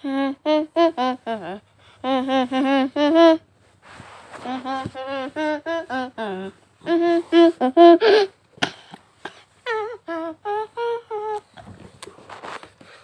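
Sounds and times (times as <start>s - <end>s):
person humming a wordless tune: 0.0s - 3.6s, 4.3s - 12.2s.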